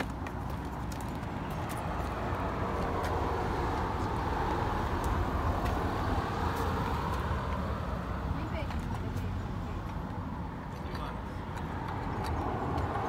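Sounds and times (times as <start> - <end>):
car passing: 0.0 - 13.0
steady low traffic rumble: 0.0 - 13.0.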